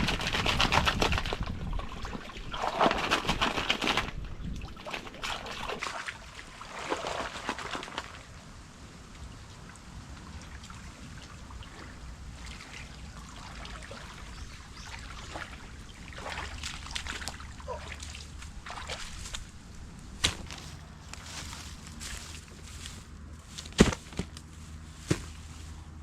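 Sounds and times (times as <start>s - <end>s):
water trickling and splashing: 0.1s - 8.5s, 9.1s - 22.5s.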